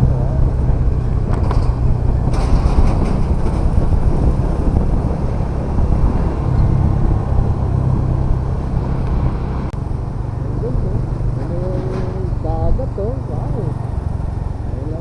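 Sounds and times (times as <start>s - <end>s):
motorcycle engine running: 0.0s - 15.0s
rushing noise: 0.0s - 15.0s.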